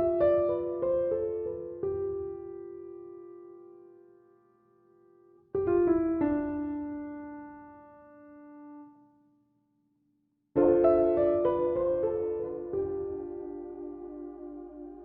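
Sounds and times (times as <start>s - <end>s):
soft slow piano: 0.0s - 9.4s, 10.6s - 15.0s.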